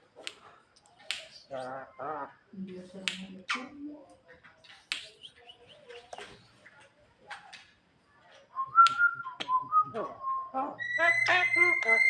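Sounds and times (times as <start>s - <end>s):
starling clicks and chirps: 0.1s - 1.9s, 2.6s - 10.2s, 10.8s - 12.0s.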